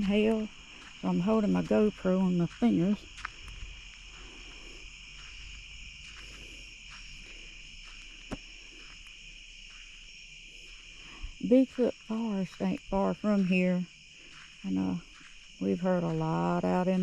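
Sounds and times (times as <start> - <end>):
crickets and night insects: 0.0 - 17.0.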